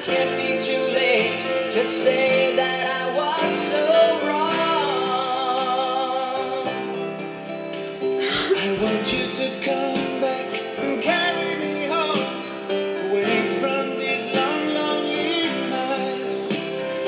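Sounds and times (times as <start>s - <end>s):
guitar accompaniment: 0.0s - 17.0s
person singing slow song: 0.0s - 17.0s.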